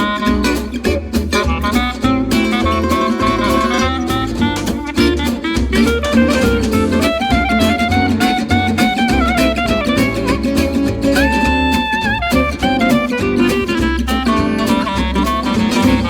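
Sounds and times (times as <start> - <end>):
plucked guitar: 0.0 - 16.0.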